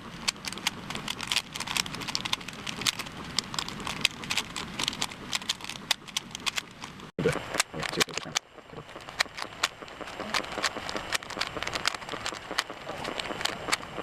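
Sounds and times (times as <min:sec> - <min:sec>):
puzzle cube clicking: 0:00.2 - 0:14.0.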